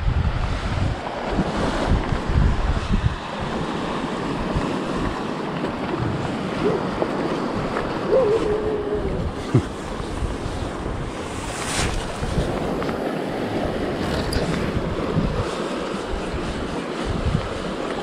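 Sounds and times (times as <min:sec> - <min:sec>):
sea waves washing against rocks: 0:00.0 - 0:18.0
wind buffeting microphone: 0:00.0 - 0:18.0.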